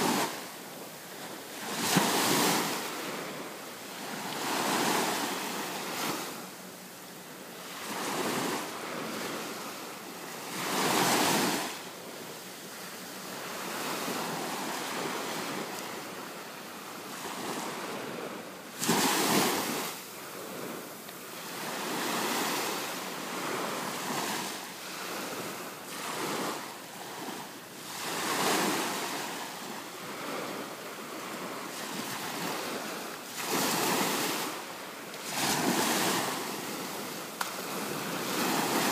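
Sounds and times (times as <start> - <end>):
ocean surf washing on beach: 0.0 - 38.9.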